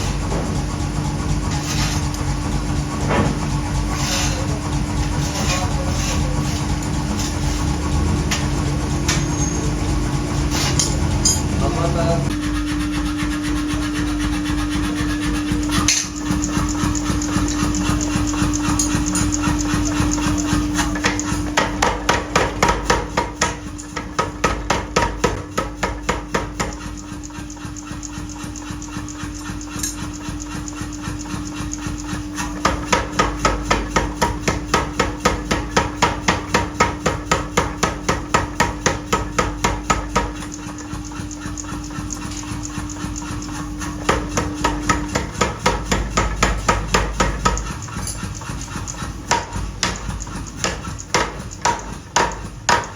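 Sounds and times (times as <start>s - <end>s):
steady machine hum: 0.0s - 52.9s.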